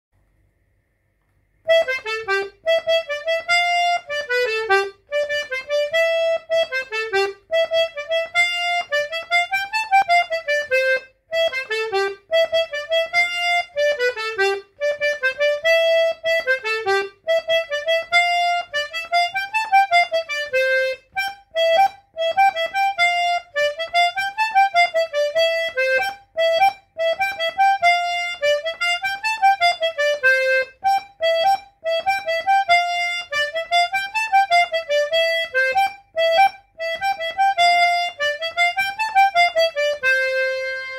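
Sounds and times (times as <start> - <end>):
button accordion playing folk tune: 1.6 - 40.9.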